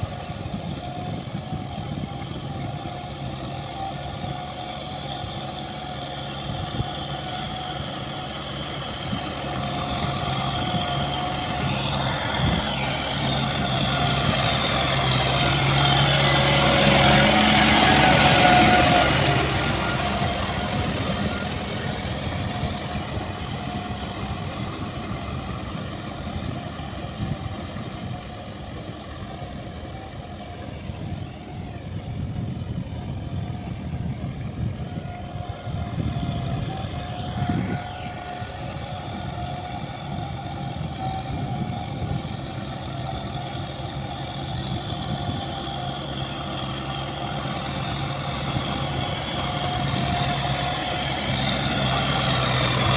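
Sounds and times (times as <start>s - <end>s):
tractor diesel engine under load: 0.0s - 52.9s.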